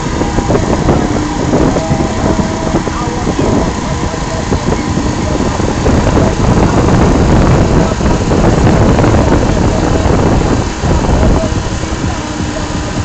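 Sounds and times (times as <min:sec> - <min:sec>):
boat engine running: 0:00.0 - 0:13.0
wind buffeting microphone: 0:00.0 - 0:13.0.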